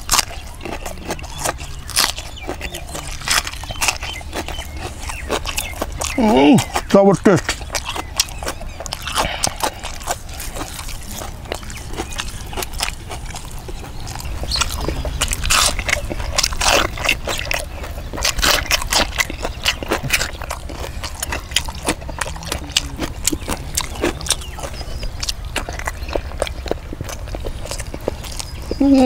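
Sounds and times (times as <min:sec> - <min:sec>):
crunching raw vegetables: 0:00.0 - 0:29.0.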